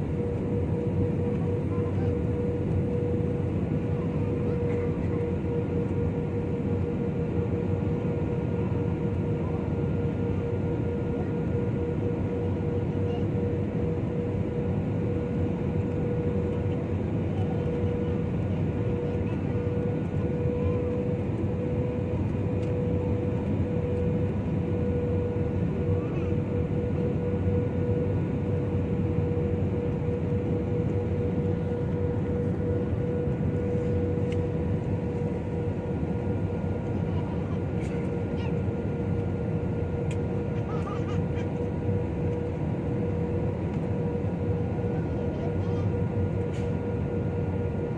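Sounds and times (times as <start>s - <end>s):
constant hum: 0.0s - 47.9s.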